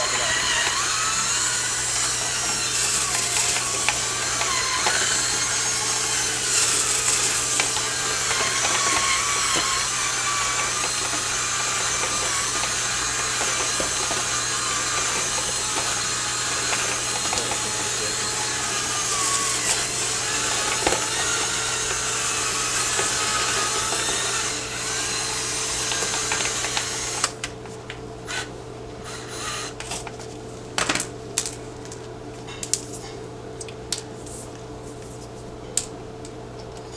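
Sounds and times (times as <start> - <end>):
power drill running: 0.0 - 31.0.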